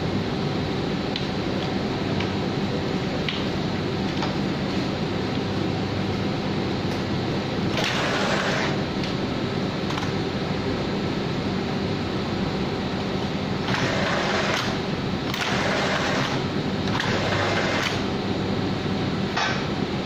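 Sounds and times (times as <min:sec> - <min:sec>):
printing machine mechanical hum: 0:00.0 - 0:20.0.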